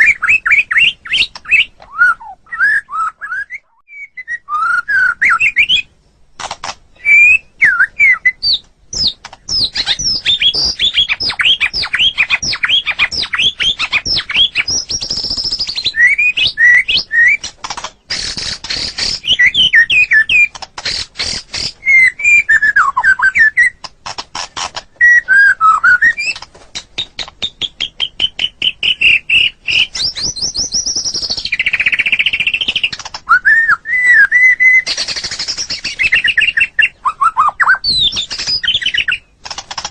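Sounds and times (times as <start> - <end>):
bird singing whistled song: 0.0 - 5.9, 6.9 - 17.5, 18.1 - 23.8, 24.9 - 39.4.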